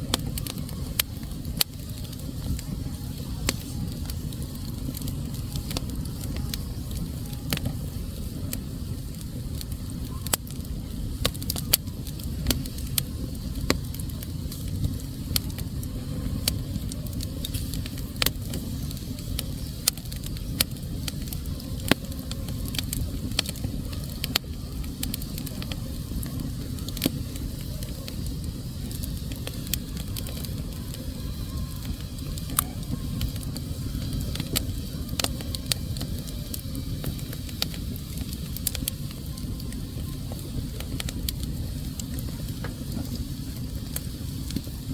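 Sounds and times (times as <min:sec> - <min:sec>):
fire crackling in fireplace: 0:00.0 - 0:44.9.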